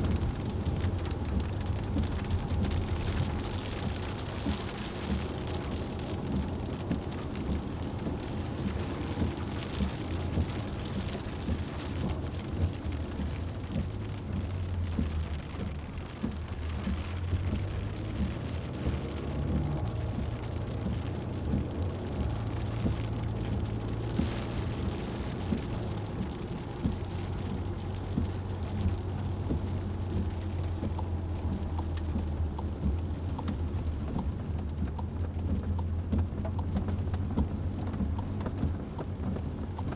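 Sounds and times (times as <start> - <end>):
rain pattering on a vehicle: 0.0 - 39.9
road and engine rumble: 0.0 - 39.9.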